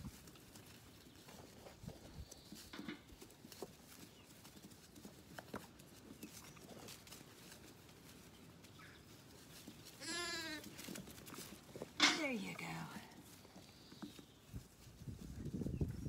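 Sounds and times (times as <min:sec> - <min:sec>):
lambs shuffling on straw: 0:00.0 - 0:16.0.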